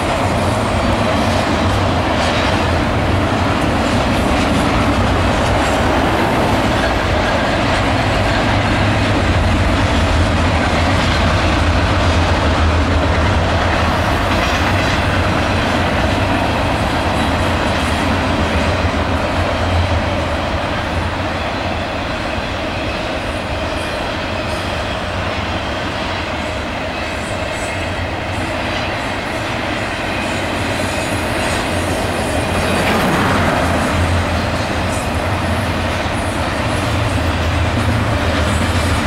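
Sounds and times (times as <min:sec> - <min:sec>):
freight train rumbling over bridge: 0:00.0 - 0:39.0.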